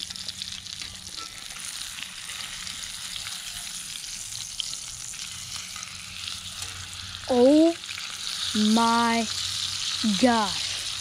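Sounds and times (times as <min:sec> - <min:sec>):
steak sizzling in a skillet: 0:00.0 - 0:11.0.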